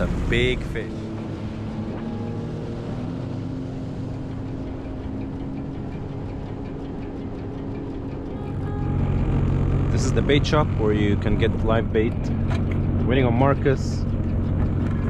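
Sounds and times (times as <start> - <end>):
engine droning steadily: 0.0 - 15.0.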